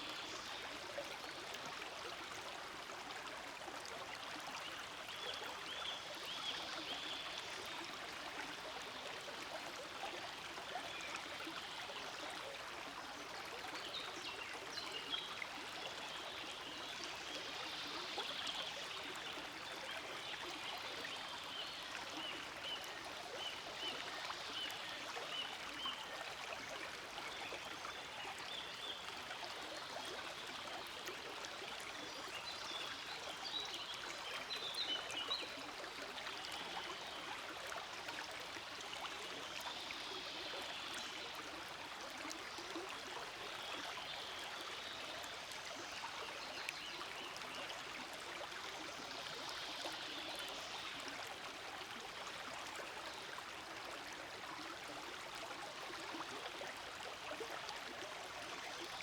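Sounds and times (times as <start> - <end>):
stream flowing and babbling: 0.0 - 59.0.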